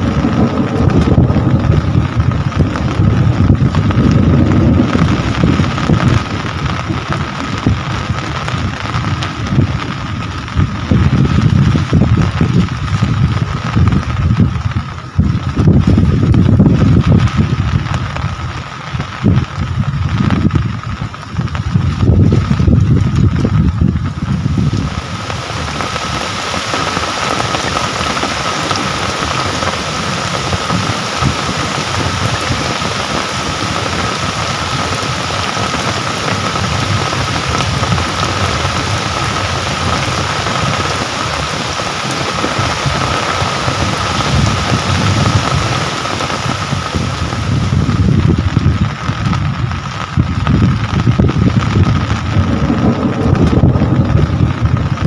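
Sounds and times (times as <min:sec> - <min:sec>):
low gusting rumble: 0:00.0 - 0:55.0
rain falling: 0:00.0 - 0:55.0.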